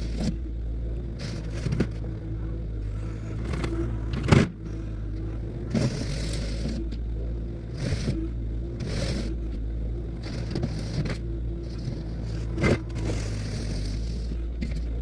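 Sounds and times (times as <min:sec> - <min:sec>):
diesel machine running: 0:00.0 - 0:15.0.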